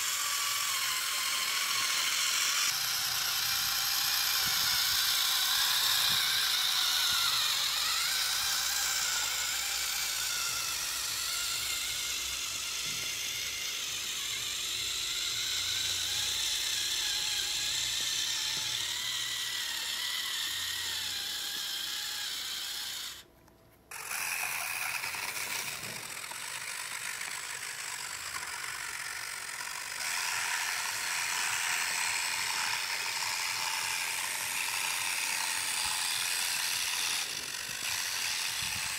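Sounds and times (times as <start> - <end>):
electric motor and gears whining: 0.0 - 38.9.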